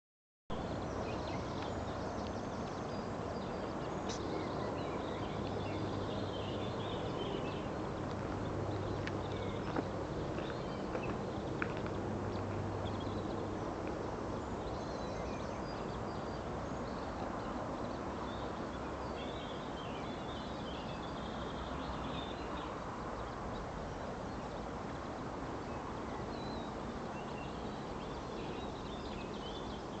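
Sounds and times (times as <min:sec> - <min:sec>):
steady background noise: 0:00.6 - 0:30.0.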